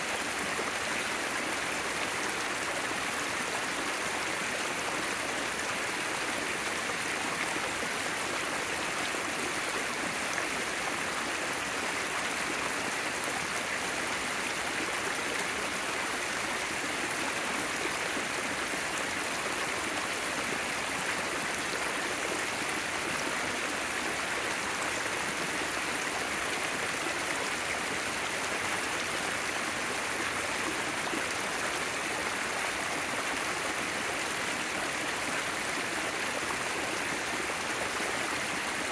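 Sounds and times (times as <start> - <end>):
creek water rushing over rock: 0.0 - 38.9.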